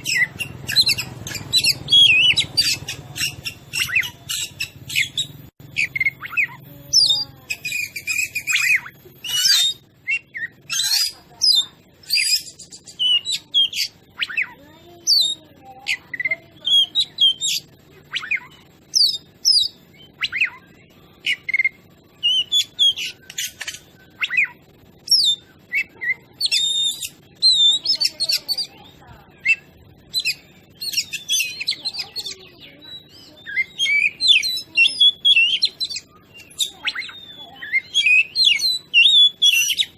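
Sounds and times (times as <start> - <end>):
songbird whistling and chirping: 0.0 - 39.9.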